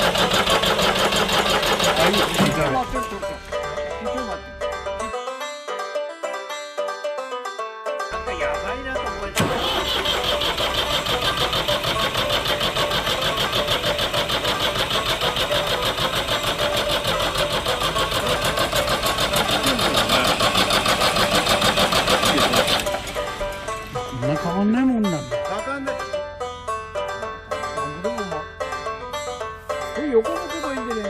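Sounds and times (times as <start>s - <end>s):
tractor engine cranking: 0.0s - 31.0s.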